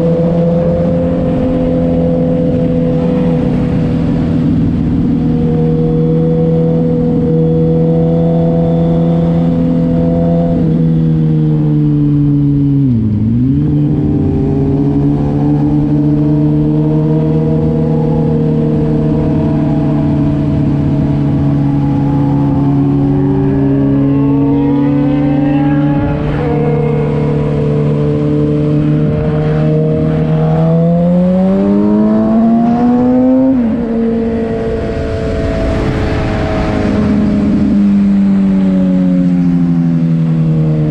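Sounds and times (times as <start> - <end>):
vehicle engine cruising: 0.0 - 40.9.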